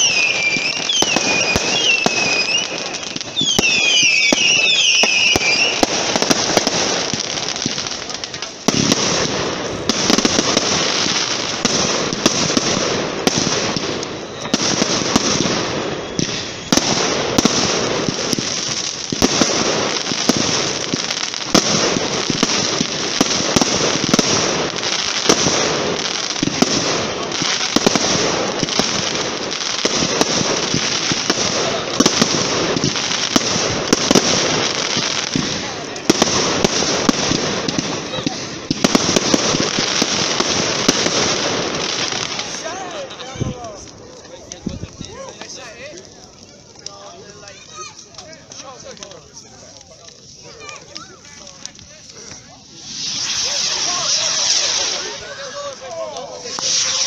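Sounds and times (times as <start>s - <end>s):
fireworks sharp bangs: 0.0s - 49.1s, 50.1s - 57.0s
fireworks crackling hiss: 0.0s - 57.0s.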